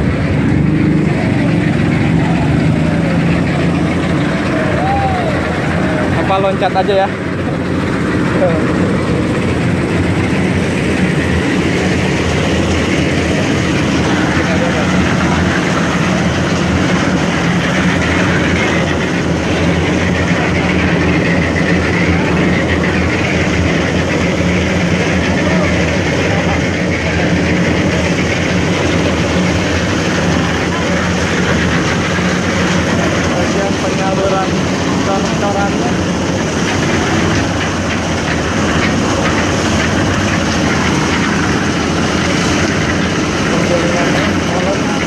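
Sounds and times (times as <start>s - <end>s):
concrete mixer engine droning: 0.0s - 45.0s.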